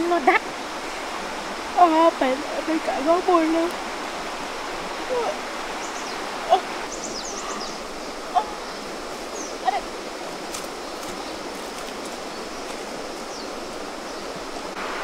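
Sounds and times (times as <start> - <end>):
stream running: 0.0 - 15.0.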